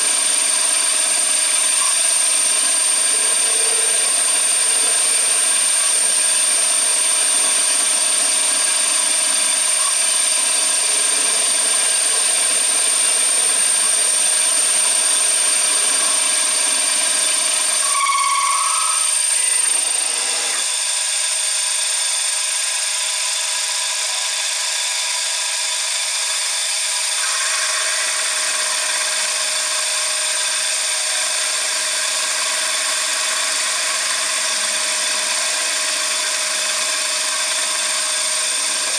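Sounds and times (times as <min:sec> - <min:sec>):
machine whining: 0:00.0 - 0:38.9.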